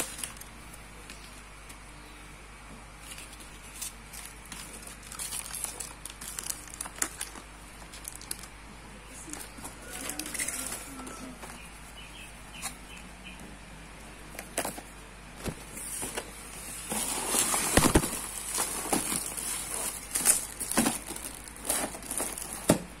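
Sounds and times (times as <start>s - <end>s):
cardboard and plastic rustling: 0.0s - 1.8s, 2.8s - 13.0s, 14.3s - 23.0s.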